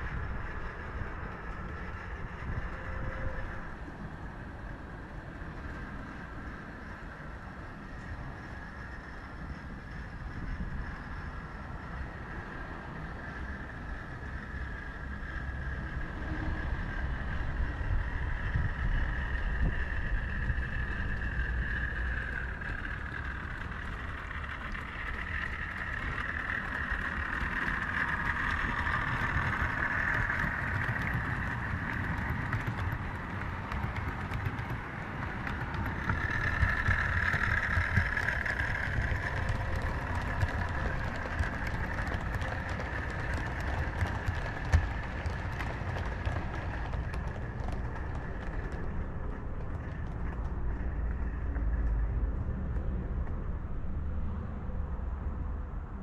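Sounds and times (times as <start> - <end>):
model train motor whine: 0.0 - 48.8
rumble of train wheels: 0.0 - 56.0.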